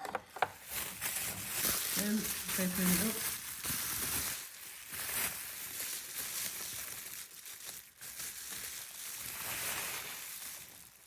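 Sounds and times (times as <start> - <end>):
wrapping crinkling and rustling: 0.0 - 11.0.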